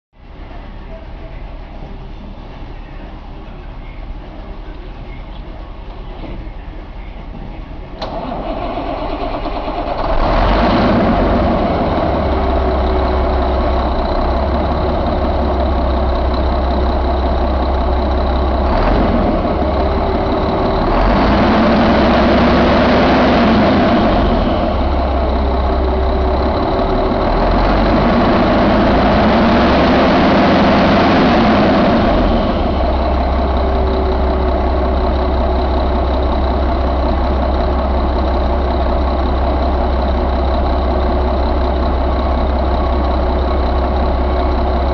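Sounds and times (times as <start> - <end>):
diesel engine idling and revving: 0.2 - 44.9.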